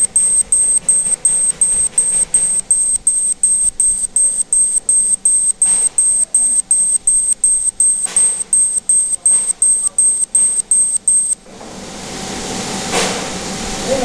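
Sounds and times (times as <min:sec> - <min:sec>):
laser engraver whining: 0:00.0 - 0:11.4.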